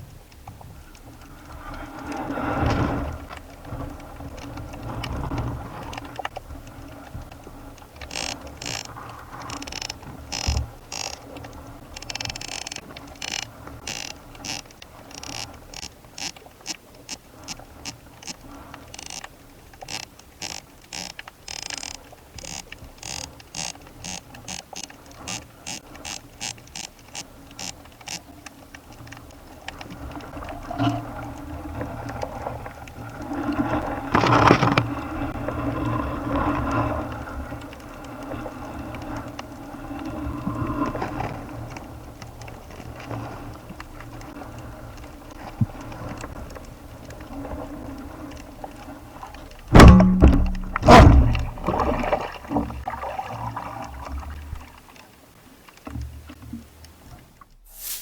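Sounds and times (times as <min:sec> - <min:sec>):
underwater clicks and crackles: 0:00.0 - 0:57.6
low underwater noise: 0:00.0 - 0:58.0.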